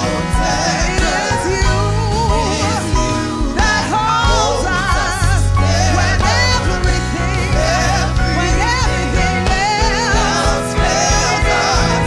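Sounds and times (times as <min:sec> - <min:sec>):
backing singers: 0:00.0 - 0:12.0
instrumental accompaniment: 0:00.0 - 0:12.0
lead vocalist singing with vibrato: 0:00.0 - 0:12.0.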